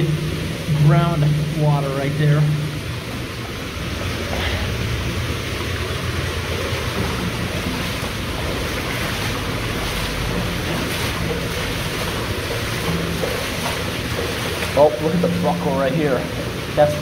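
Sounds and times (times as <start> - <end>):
water rushing through metal pipe: 0.0 - 17.0.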